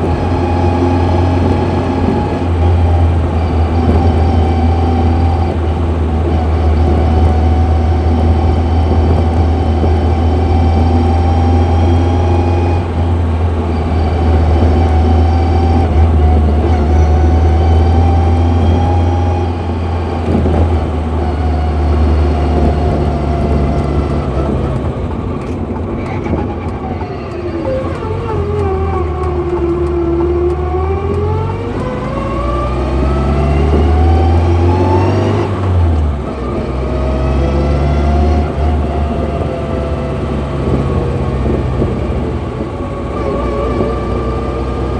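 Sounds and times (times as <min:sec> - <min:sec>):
car engine and road drone: 0:00.0 - 0:44.9
gearbox whine: 0:00.0 - 0:44.9.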